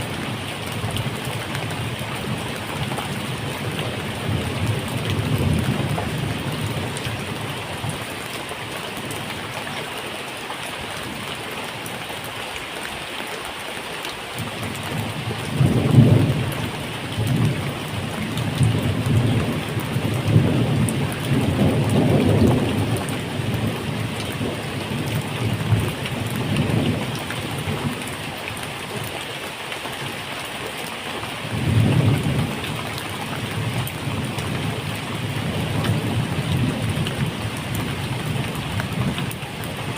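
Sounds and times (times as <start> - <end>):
steady medium rain: 0.0 - 39.9.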